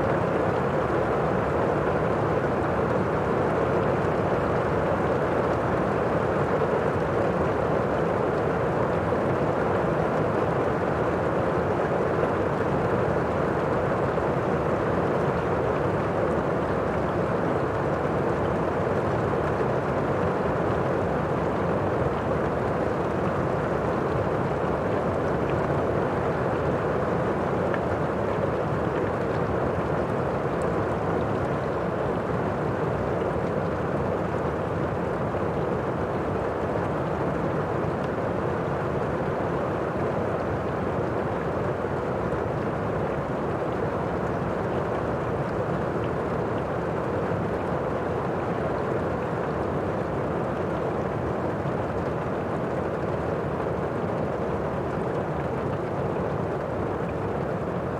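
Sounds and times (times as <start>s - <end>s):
heavy rain heard from indoors: 0.0s - 57.9s.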